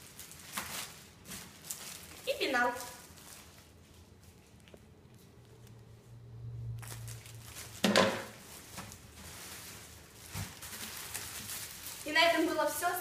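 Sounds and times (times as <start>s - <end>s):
plastic wrapping rustling: 0.0s - 13.0s.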